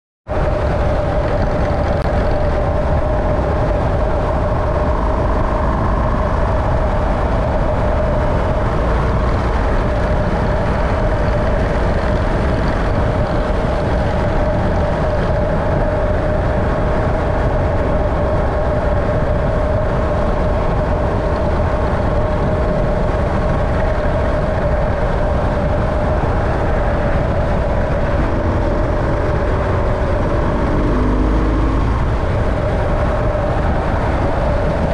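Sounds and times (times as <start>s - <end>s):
vehicle running: 0.3s - 34.9s.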